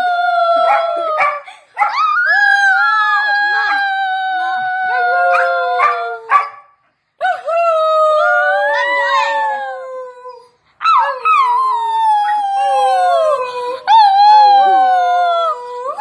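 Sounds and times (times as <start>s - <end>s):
dog howling: 0.0s - 6.6s, 7.3s - 16.0s.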